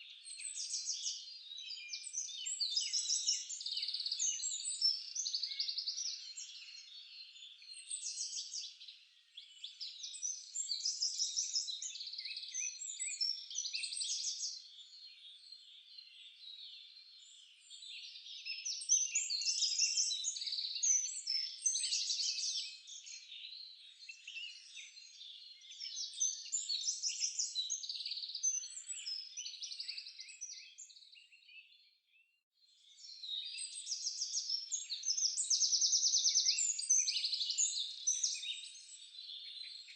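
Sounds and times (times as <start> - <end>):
forest birds chirping and trilling: 0.0 - 39.9.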